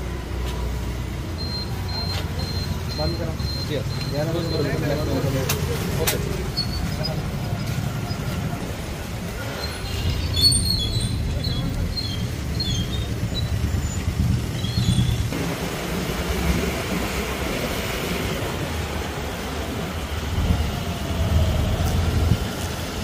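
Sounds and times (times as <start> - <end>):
road noise: 0.0 - 23.0
vehicle engine rumble: 0.0 - 23.0.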